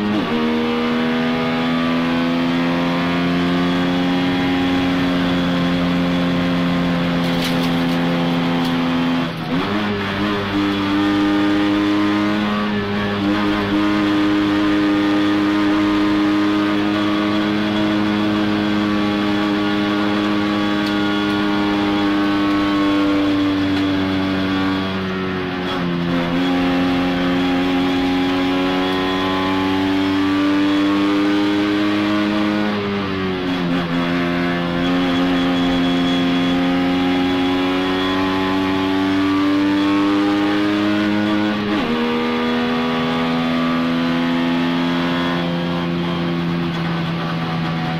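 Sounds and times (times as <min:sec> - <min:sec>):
race car engine at high revs: 0:00.0 - 0:47.9.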